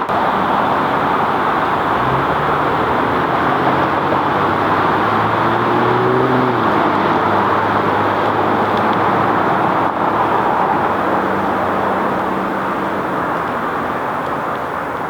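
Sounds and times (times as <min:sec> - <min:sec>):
passing vehicle engines humming: 0:00.0 - 0:15.0.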